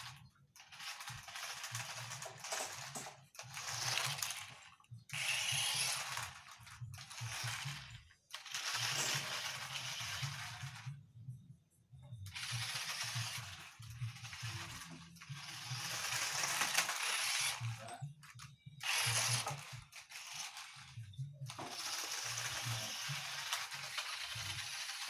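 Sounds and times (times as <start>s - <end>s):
toy car motor whirring: 0.0s - 11.0s, 12.2s - 25.0s.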